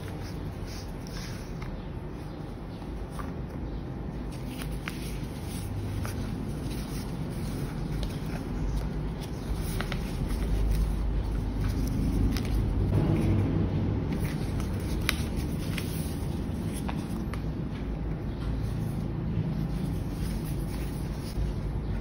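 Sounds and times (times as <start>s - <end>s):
cardboard and paper rustling: 0.0s - 13.2s, 14.1s - 22.0s.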